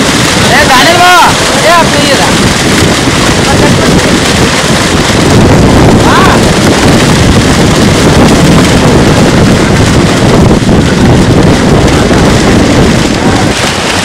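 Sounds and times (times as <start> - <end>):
fish thrashing and splashing: 0.0 - 14.0
wind buffeting microphone: 0.0 - 14.0.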